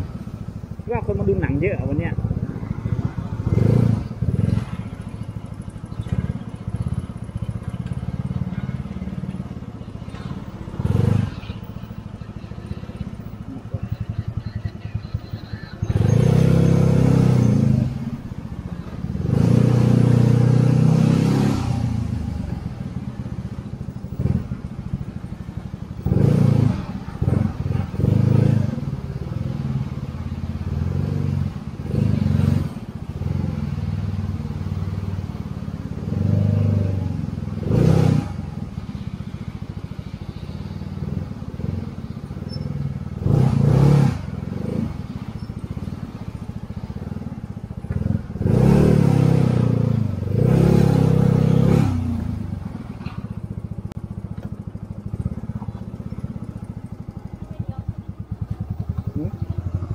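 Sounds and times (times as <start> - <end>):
motor scooter engine revving: 0.0 - 8.5, 10.6 - 59.9.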